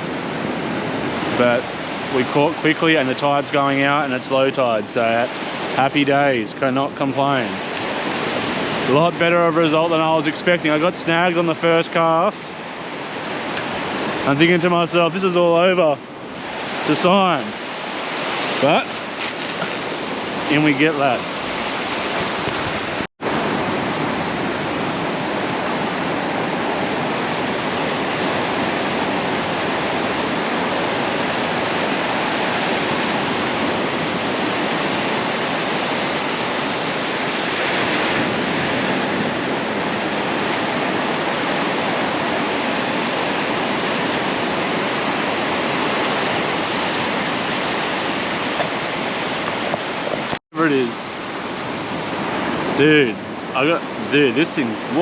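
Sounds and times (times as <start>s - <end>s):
ocean surf washing onto beach: 0.0s - 55.0s.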